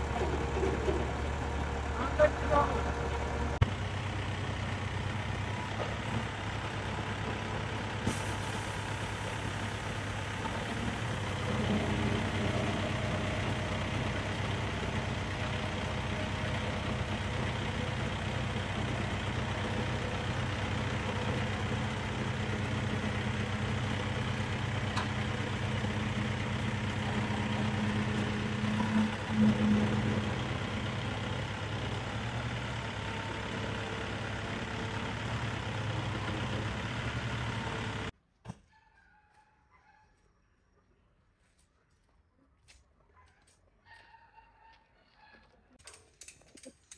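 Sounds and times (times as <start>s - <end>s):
tow truck engine running: 0.0s - 38.2s.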